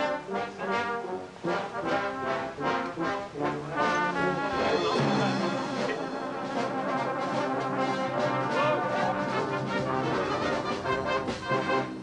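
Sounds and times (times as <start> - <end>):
brass band playing chords: 0.0 - 12.0.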